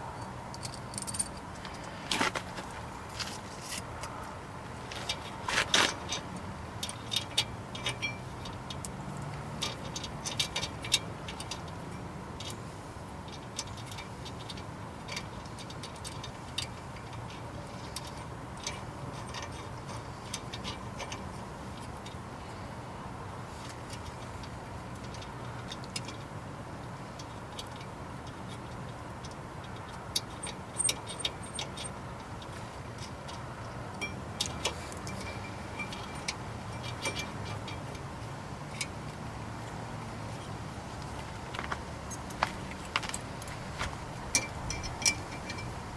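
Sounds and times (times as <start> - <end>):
small metallic clicks: 0.1 - 22.8, 23.5 - 45.9.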